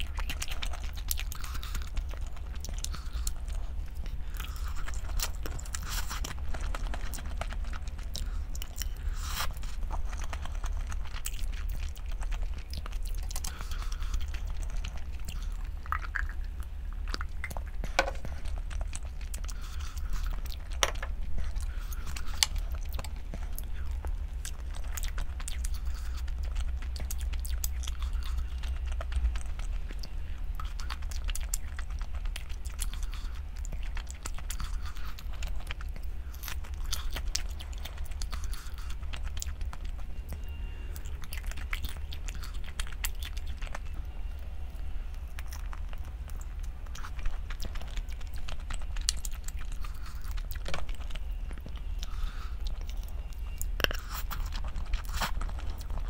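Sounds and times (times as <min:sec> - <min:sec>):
chewing and biting: 0:00.0 - 0:56.0
steady low hum: 0:00.0 - 0:56.0.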